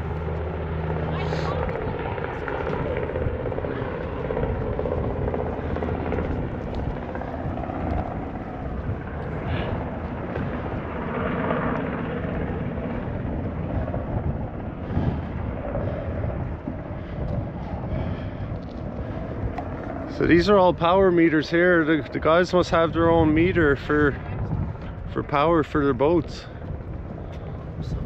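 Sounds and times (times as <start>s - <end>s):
helicopter rotor beating: 0.0s - 28.0s.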